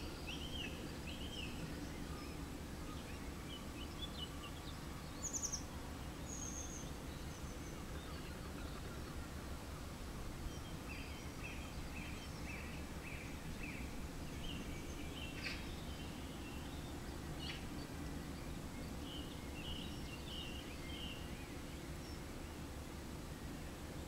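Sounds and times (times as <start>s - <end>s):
small birds chirping: 0.0s - 22.3s.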